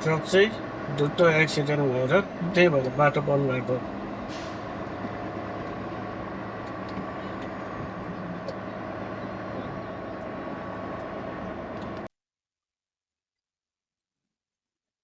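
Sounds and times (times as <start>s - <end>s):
diesel truck engine droning: 0.0s - 12.1s
road noise: 0.0s - 12.1s.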